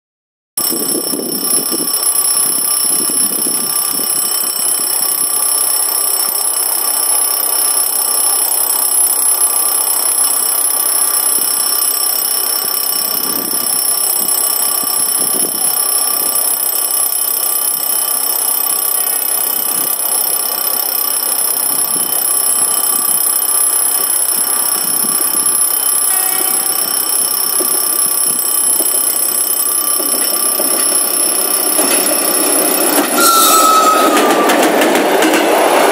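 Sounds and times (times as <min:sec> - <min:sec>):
level crossing bell ringing: 0:00.6 - 0:34.6.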